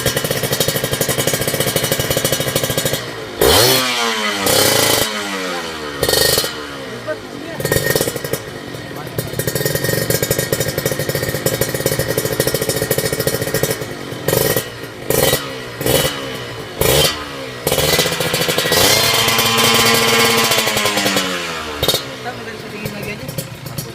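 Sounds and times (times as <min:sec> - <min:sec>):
two-stroke motorcycle engine revving: 0:00.0 - 0:23.9.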